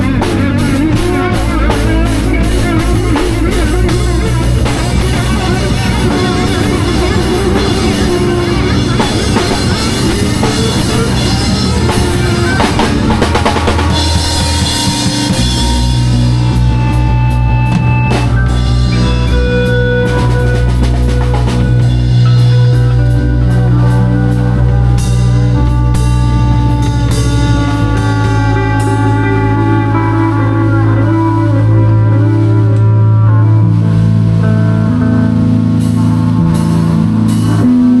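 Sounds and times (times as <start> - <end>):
drum kit with cymbals: 0.0 - 38.0
live rock band playing: 0.0 - 38.0
low bass notes: 0.0 - 38.0.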